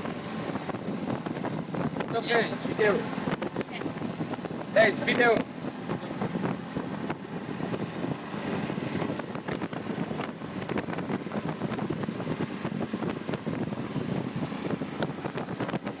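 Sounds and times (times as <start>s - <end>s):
motorboat engine running: 0.0s - 16.0s
wind buffeting microphone: 0.0s - 16.0s.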